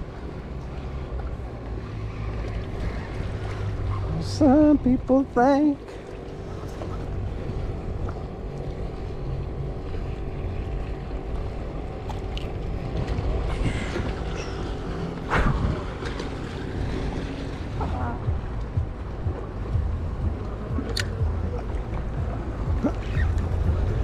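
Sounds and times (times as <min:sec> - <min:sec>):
water noise: 0:00.0 - 0:24.0
wind buffeting microphone: 0:00.0 - 0:24.0.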